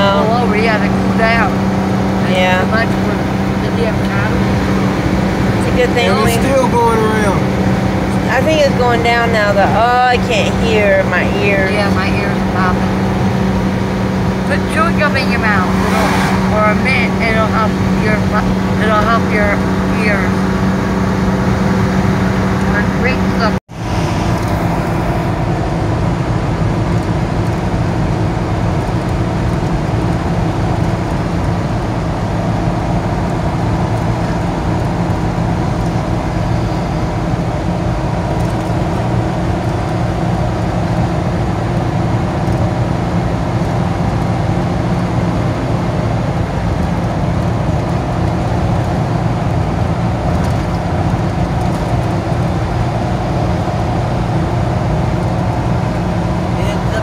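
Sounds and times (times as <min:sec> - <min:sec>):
tyre and road noise: 0:00.0 - 0:57.0
vehicle engine hum: 0:00.0 - 0:57.0.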